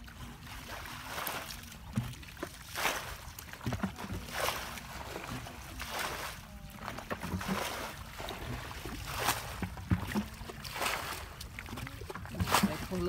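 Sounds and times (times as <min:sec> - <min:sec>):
bucket throwing water splashing: 0:00.0 - 0:13.0.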